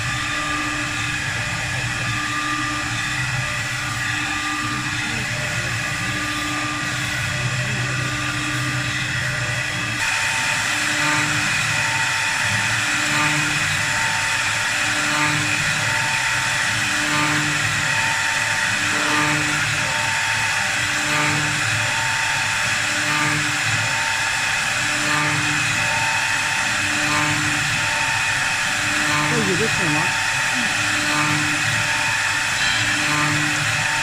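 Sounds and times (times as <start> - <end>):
wood-turning lathe running: 0.0 - 34.0.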